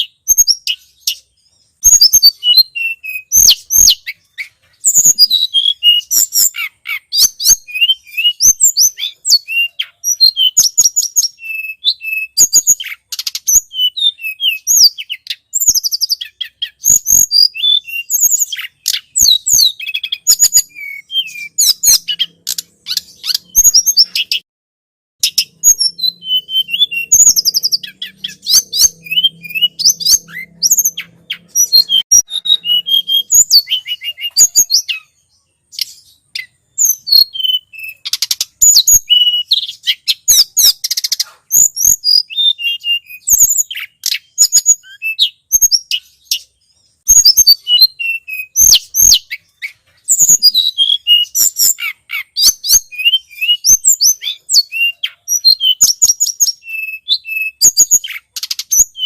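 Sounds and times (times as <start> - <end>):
songbird chirping and twittering: 0.0 - 24.5, 25.2 - 59.0.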